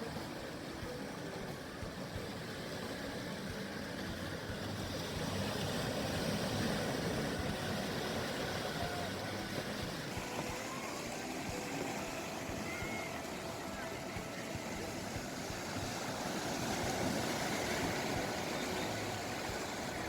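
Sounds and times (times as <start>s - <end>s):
waves breaking on a beach: 0.0s - 20.0s.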